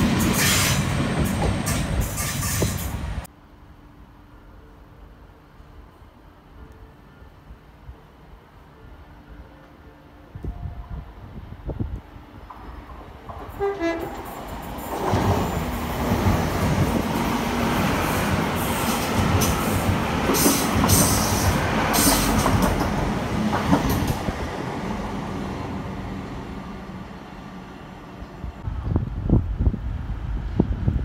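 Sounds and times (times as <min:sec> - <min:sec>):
train rumbling on rails: 0:00.0 - 0:03.3, 0:04.8 - 0:31.0.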